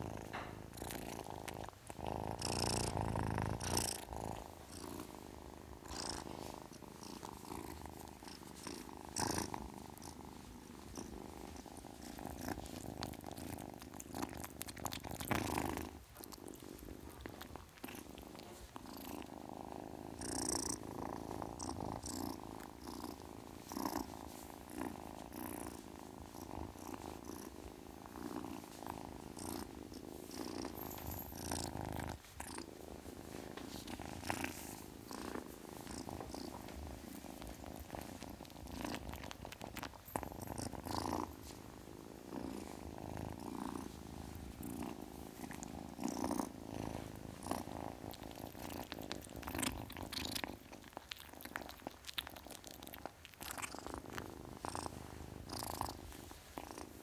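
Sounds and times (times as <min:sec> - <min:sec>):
kitten purring: 0:00.0 - 0:57.0.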